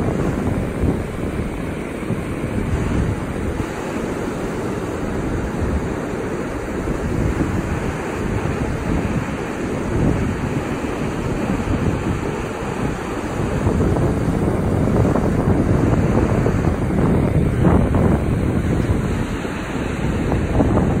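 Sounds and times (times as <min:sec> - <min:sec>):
surf breaking on beach: 0:00.0 - 0:21.0
wind rumbling on microphone: 0:00.0 - 0:21.0.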